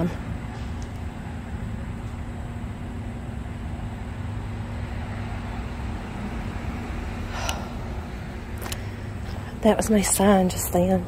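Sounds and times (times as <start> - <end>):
faint steady hum: 0.0 - 11.0
passing cars: 0.0 - 11.0.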